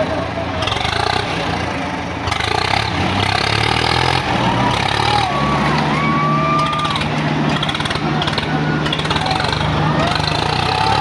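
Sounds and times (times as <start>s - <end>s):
crowd noise: 0.0s - 11.0s
tractor diesel engine running: 0.0s - 11.0s.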